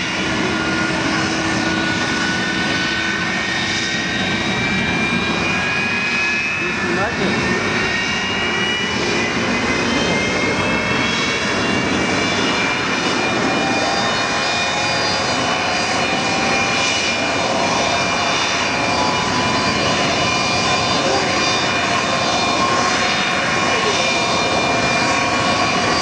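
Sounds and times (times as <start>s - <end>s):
jet engines spooling up: 0.0s - 26.0s.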